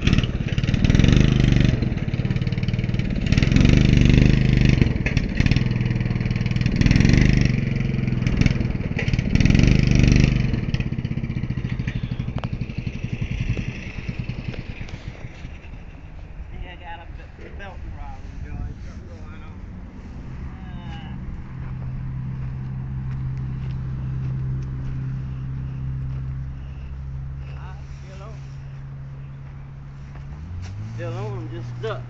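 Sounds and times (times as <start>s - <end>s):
lawnmower engine revving: 0.0s - 32.0s.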